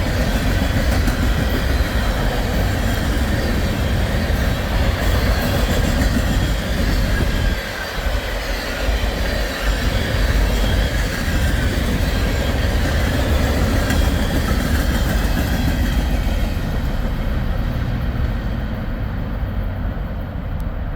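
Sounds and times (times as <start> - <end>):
train wheels clattering over rail joints: 0.0 - 18.8.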